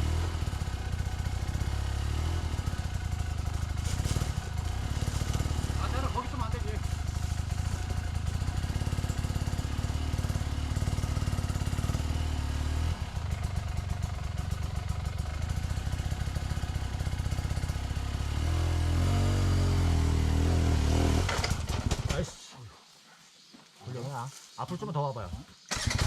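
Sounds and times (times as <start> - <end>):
dirt bike engine at low revs: 0.0 - 22.4.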